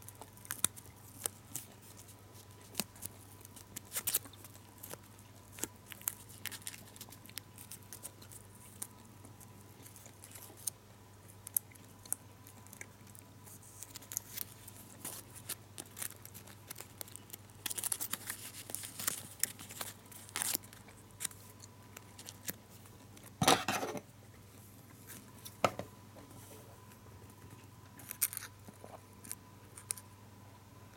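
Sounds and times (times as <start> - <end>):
gum wrapper crinkling: 0.0 - 23.4, 27.5 - 30.1.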